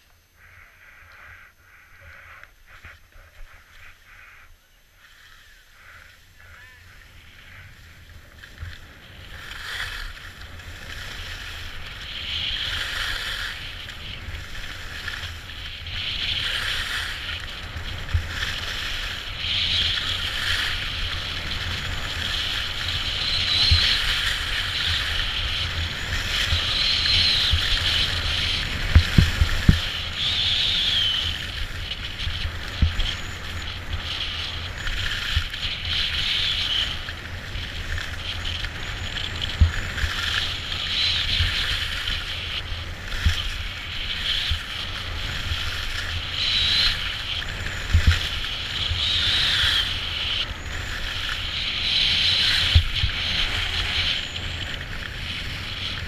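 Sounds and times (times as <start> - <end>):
wind rumbling on microphone: 0.0 - 56.0
skis scraping over packed snow: 4.9 - 56.0.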